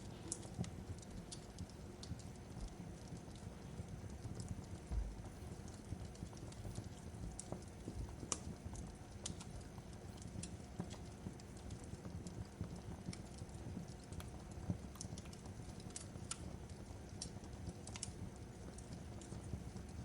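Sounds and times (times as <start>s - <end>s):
fireplace fire crackling: 0.0s - 20.0s
low rumble of flame: 0.0s - 20.0s.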